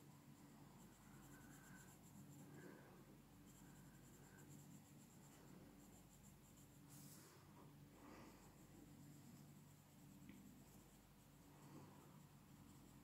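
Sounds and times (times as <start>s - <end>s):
pencil scratching on paper: 0.7s - 7.3s, 8.5s - 13.0s.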